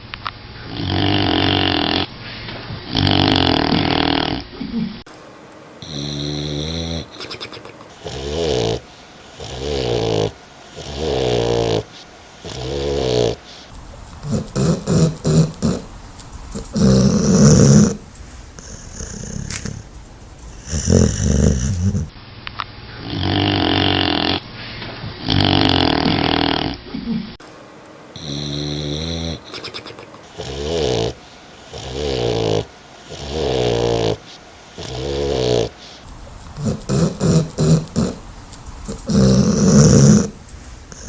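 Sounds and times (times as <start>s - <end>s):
dog snoring: 0.6s - 2.1s, 2.8s - 5.0s, 5.8s - 19.9s, 20.5s - 22.2s, 22.9s - 27.3s, 28.2s - 41.0s.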